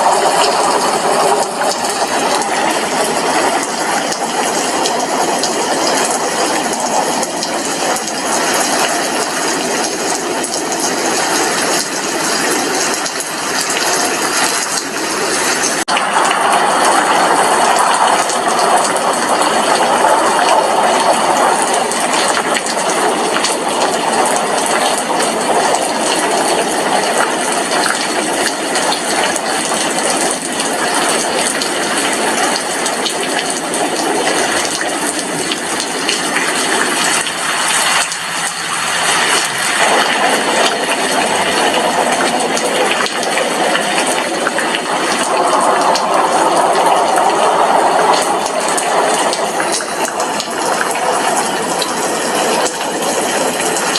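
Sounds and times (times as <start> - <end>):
rain on a glass window: 0.0 - 53.9.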